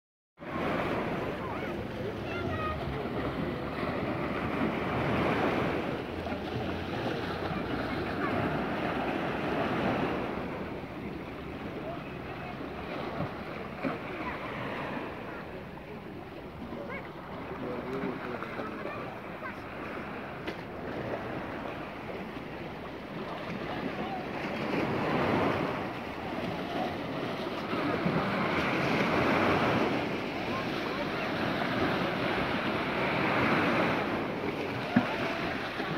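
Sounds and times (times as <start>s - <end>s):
waves splashing against rocks: 0.4s - 35.9s.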